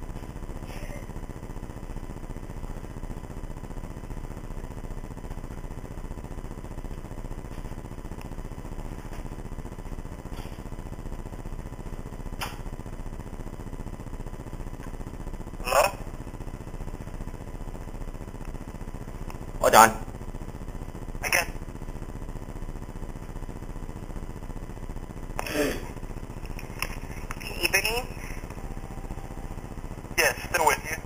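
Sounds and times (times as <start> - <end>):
faint hum: 0.0 - 31.0
telephone line hiss: 0.0 - 31.0.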